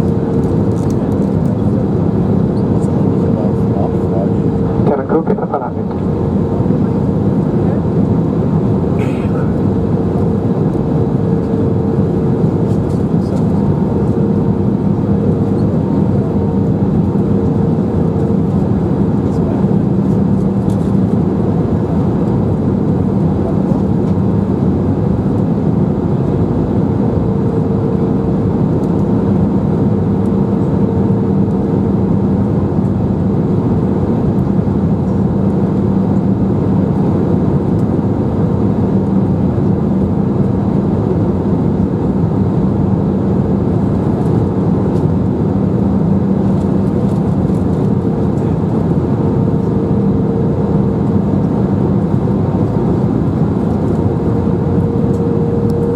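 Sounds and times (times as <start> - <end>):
jet engines droning: 0.0 - 55.9.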